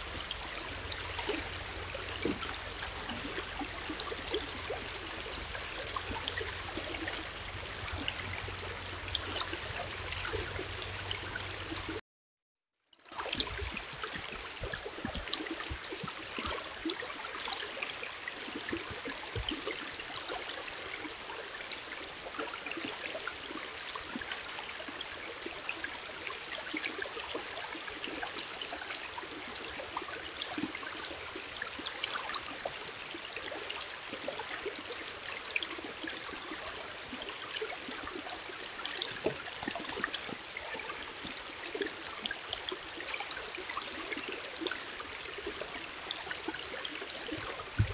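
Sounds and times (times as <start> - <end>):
stream running over rocks: 0.0 - 12.0, 13.0 - 47.9.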